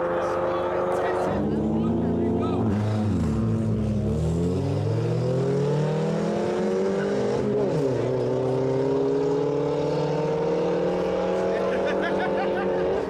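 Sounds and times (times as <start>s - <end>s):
car engines accelerating hard: 0.0s - 13.0s.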